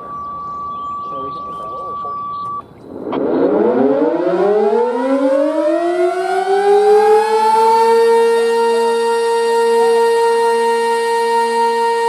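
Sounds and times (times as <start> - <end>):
warning siren winding up: 0.0 - 12.0.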